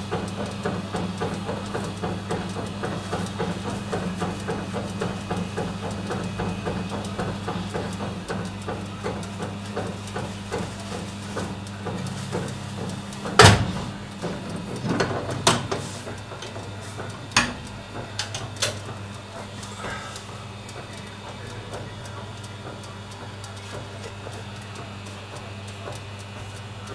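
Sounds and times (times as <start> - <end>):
oven electric hum: 0.0 - 26.9
turning spit ticking: 0.0 - 26.9.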